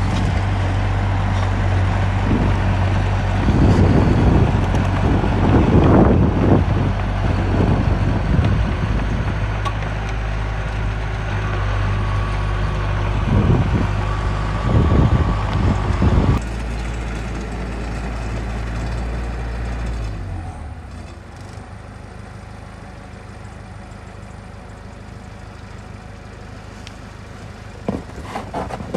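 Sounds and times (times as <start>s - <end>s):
diesel engine revving: 0.0s - 28.9s.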